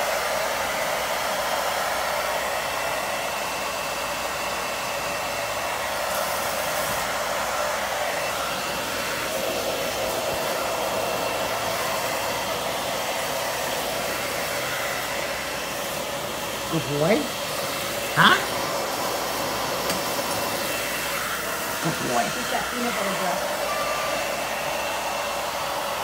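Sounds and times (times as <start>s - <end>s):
hair dryer blowing: 0.0s - 26.0s.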